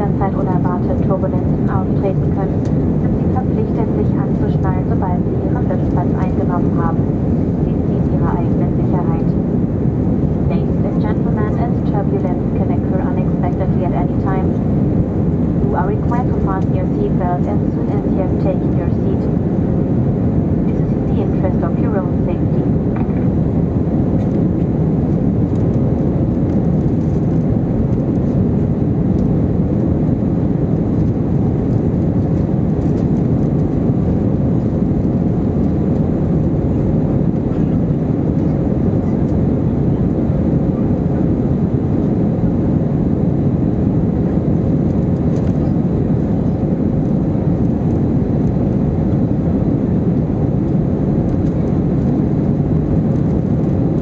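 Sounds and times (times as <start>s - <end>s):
aircraft cabin rumble: 0.0s - 54.0s
faint steady hum: 0.0s - 54.0s.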